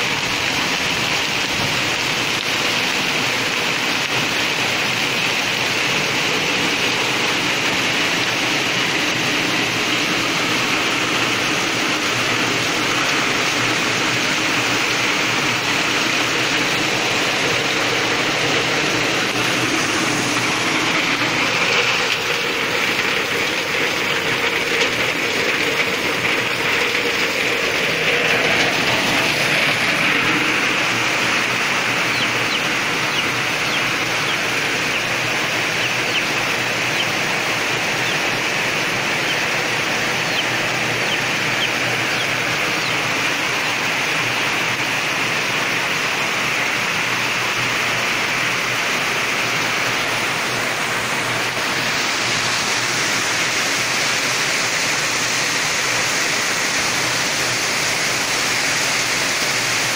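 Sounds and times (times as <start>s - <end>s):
rain on metal roof: 0.0s - 59.9s.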